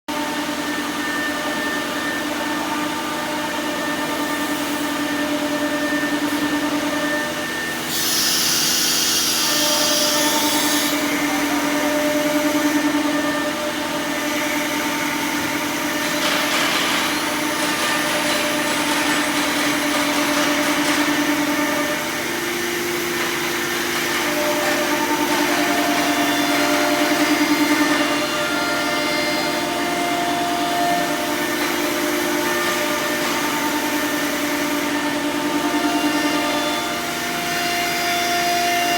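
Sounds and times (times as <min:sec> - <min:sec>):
router spindle machine drone: 0:00.1 - 0:38.9.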